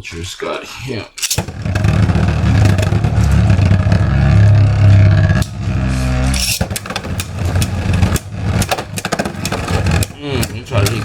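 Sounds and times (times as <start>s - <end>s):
sharp clacks of tops hitting: 1.2s - 11.0s
spinning tops whirring: 1.2s - 11.0s.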